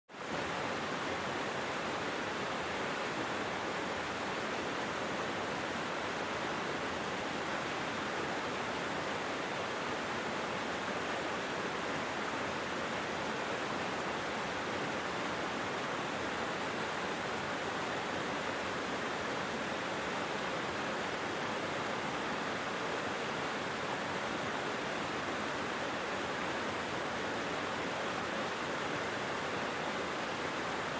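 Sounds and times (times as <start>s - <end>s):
stream flowing over rocks: 0.2s - 30.9s.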